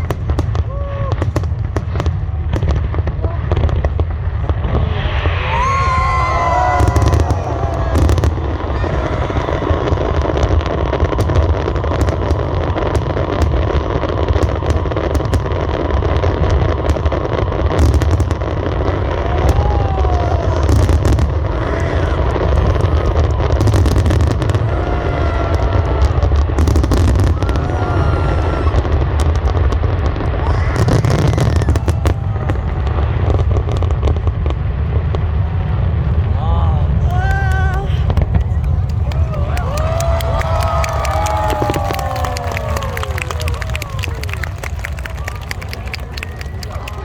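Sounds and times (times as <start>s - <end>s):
fireworks crackling and popping: 0.0s - 36.3s, 36.9s - 47.0s
fireworks booming: 0.0s - 47.0s.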